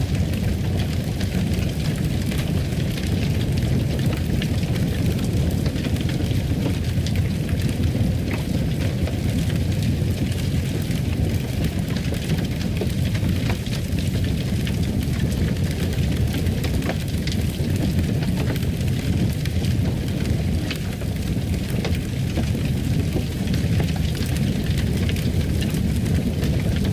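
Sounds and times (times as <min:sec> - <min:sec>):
fireplace fire crackling: 0:00.0 - 0:26.9.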